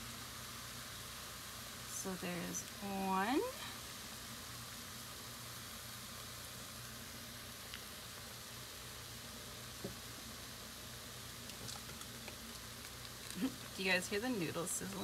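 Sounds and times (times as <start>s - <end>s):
noodles sizzling in a pot: 0.0s - 15.0s.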